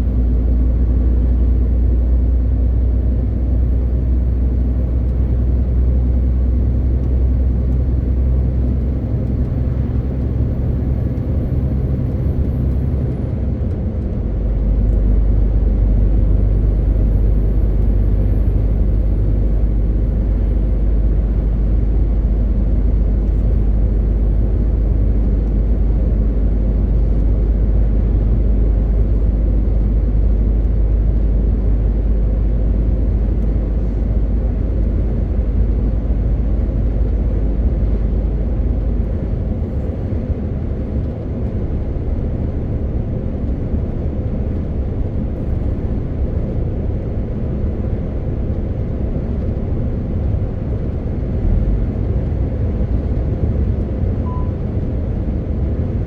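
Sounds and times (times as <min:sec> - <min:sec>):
diesel truck engine running: 0:00.0 - 0:56.0
road noise: 0:00.0 - 0:56.0.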